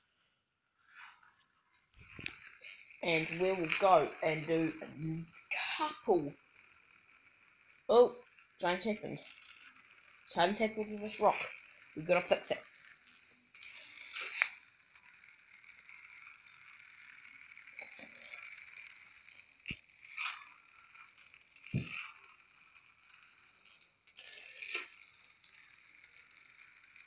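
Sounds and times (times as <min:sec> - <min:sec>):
toy car whirring and rattling: 0:00.0 - 0:27.0.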